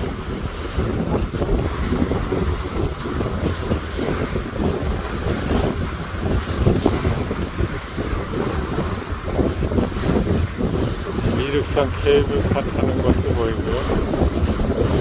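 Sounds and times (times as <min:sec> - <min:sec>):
steady low rumble: 0:00.0 - 0:15.0
water rushing: 0:00.0 - 0:15.0
wind buffeting microphone: 0:00.0 - 0:15.0.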